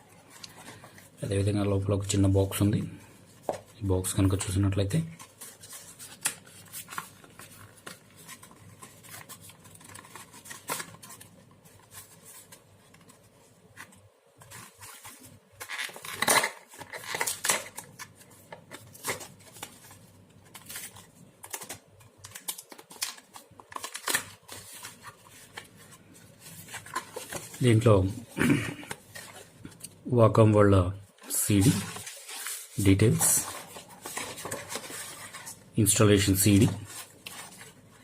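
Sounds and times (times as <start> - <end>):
paper inserts rustling: 3.3 - 30.0, 31.2 - 38.0.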